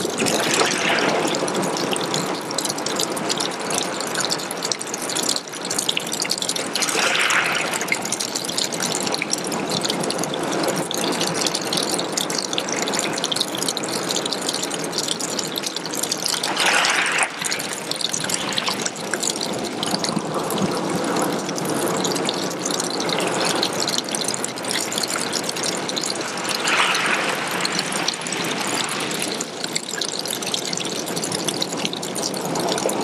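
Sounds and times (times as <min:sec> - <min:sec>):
water trickling onto pebbles: 0:00.0 - 0:33.0.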